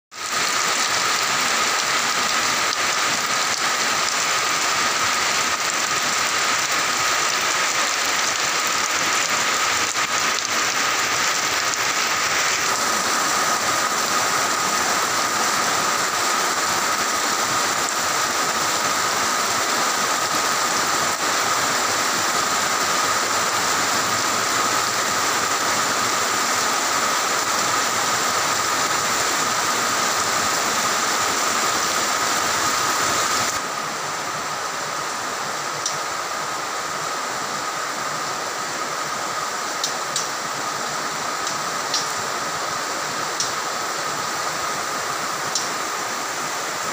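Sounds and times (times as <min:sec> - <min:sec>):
heavy rain on paving: 0:00.1 - 0:46.9.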